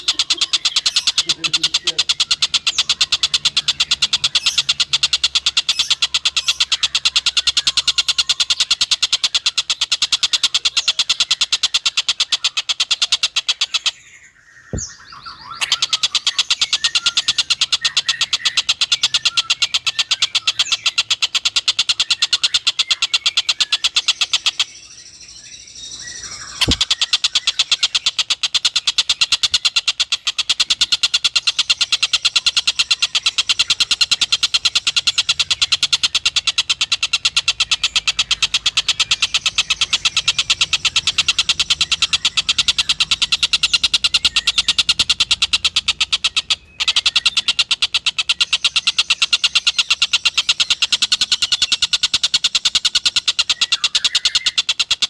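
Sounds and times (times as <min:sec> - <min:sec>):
kingfisher chattering trill: 0:00.0 - 0:14.0, 0:14.7 - 0:24.7, 0:26.2 - 0:55.0.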